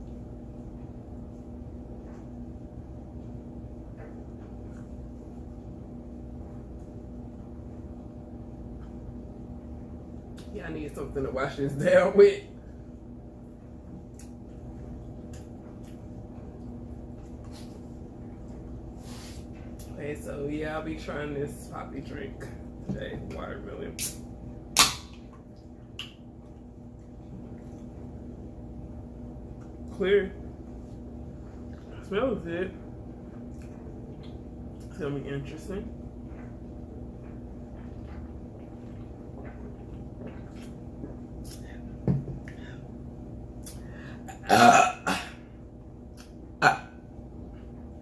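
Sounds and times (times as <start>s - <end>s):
low background hum: 0.0s - 48.0s.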